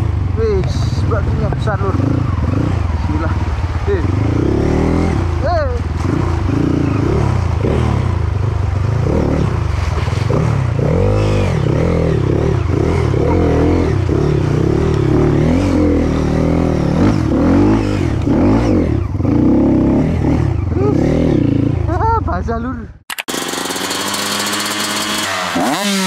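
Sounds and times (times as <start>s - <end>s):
dirt bike engine revving: 0.0s - 22.4s, 23.1s - 26.0s.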